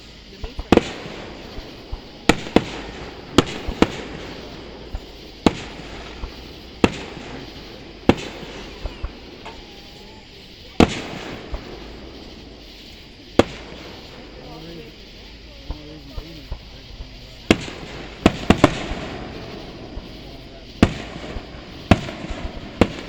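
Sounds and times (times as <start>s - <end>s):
firework crackling: 0.0s - 23.0s
loud firework booms: 0.0s - 23.0s
small firework pops: 0.0s - 23.0s.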